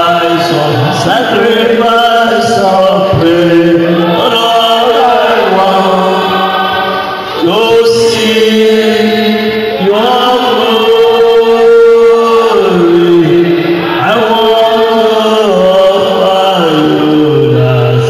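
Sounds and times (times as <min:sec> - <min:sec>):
voices singing slowly: 0:00.0 - 0:18.0.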